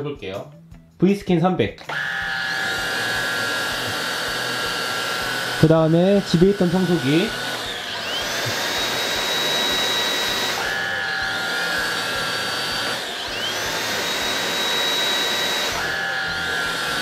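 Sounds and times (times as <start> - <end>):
lower-pitched vacuum motor: 1.8 - 17.0
vacuum motor whining: 1.8 - 17.0.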